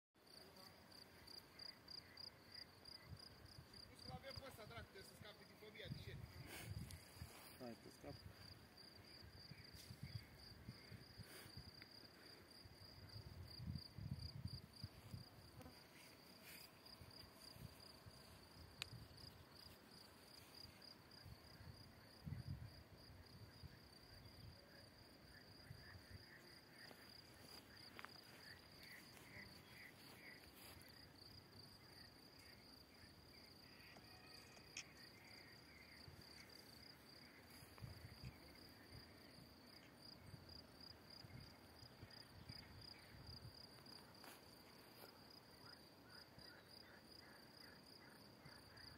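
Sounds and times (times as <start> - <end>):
insects trilling: 0.3 - 48.9.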